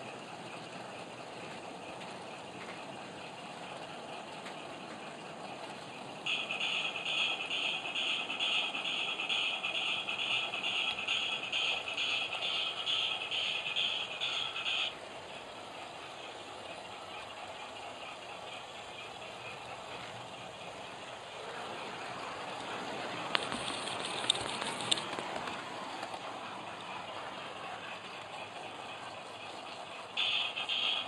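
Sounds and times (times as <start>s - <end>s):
model train wheels rattling on track: 0.0s - 31.0s.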